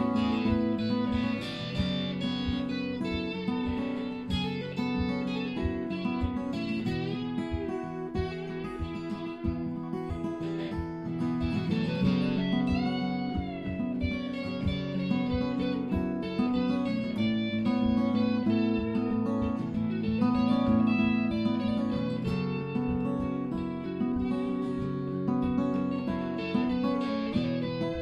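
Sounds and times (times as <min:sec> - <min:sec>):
acoustic guitar picked steadily: 0:00.0 - 0:28.0
lead guitar line: 0:00.0 - 0:28.0.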